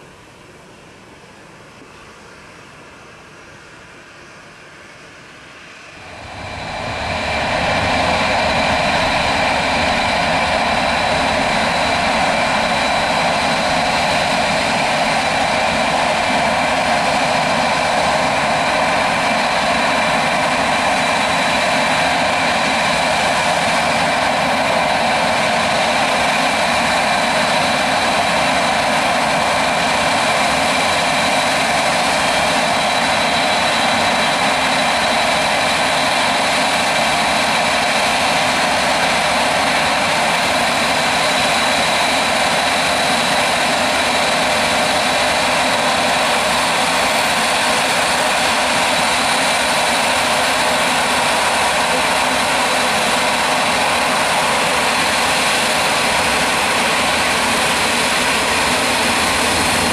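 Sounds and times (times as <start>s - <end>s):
jet engines running with high whine: 0.0s - 59.9s.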